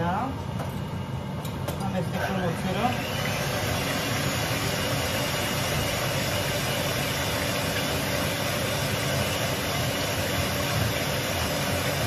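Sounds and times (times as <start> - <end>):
electric hand mixer whisking: 2.3 - 12.0.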